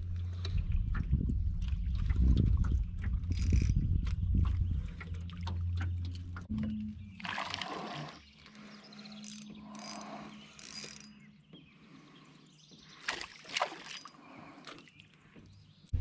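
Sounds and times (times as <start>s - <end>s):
water splashing and sloshing: 0.0s - 15.9s.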